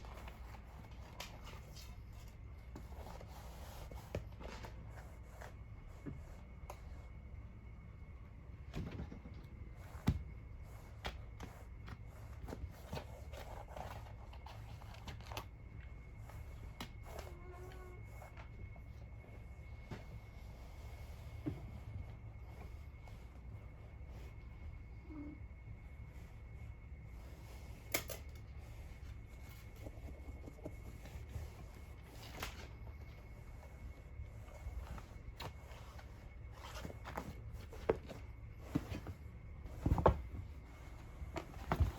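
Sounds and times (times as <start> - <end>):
cats scratching carpet: 0.0 - 41.9.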